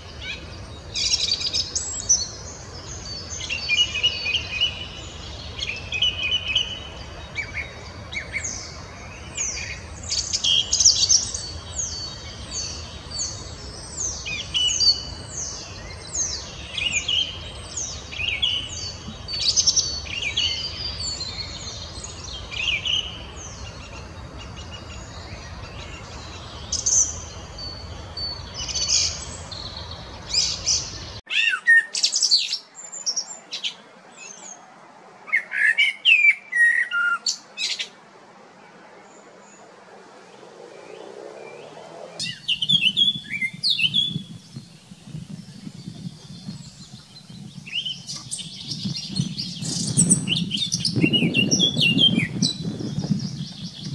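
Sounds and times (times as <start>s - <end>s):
other birdsong: 0.0s - 53.9s.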